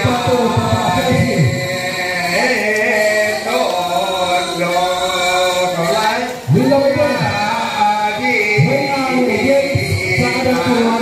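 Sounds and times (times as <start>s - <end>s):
group chanting held tones: 0.0s - 11.0s.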